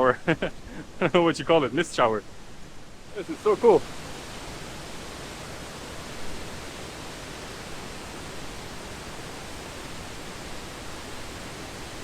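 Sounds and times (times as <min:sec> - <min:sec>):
waterfall rushing: 0:01.6 - 0:12.0.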